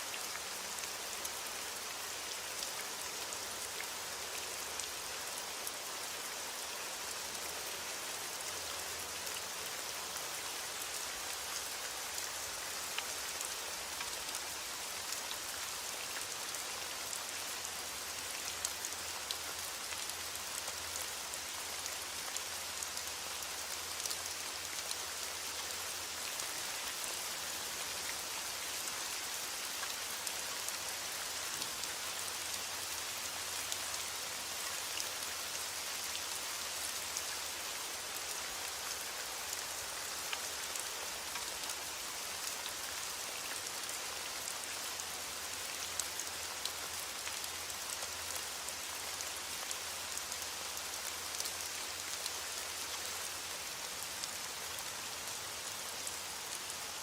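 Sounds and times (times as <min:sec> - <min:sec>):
steady rain falling: 0:00.0 - 0:57.0
raindrops ticking on a surface: 0:06.6 - 0:57.0.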